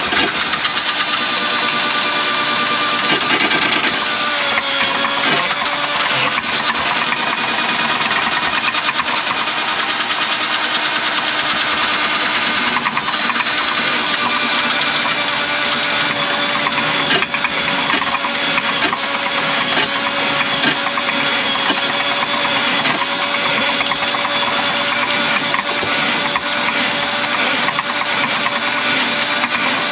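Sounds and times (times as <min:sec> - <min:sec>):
drain auger running: 0:00.0 - 0:29.9.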